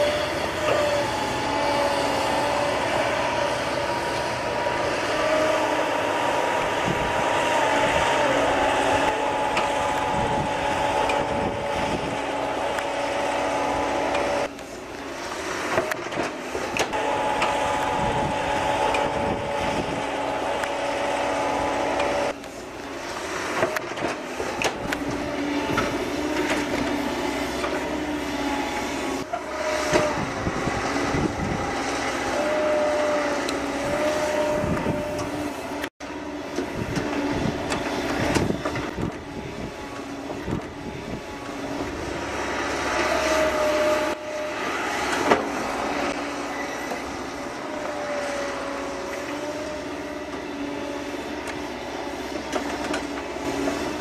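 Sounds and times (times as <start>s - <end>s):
diesel engine under load: 0.0s - 54.0s
hydraulics whining: 0.0s - 54.0s.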